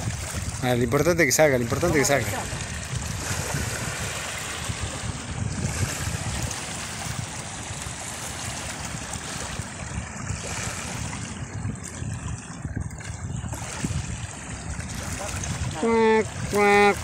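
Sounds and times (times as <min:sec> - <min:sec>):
small waves lapping on stones: 0:00.0 - 0:17.0
wind buffeting microphone: 0:00.0 - 0:17.0.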